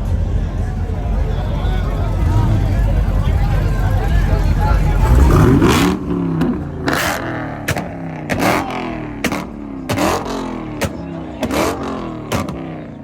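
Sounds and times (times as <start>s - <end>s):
car engine revving: 0.0s - 13.0s
exhaust pops and backfires: 0.0s - 13.0s.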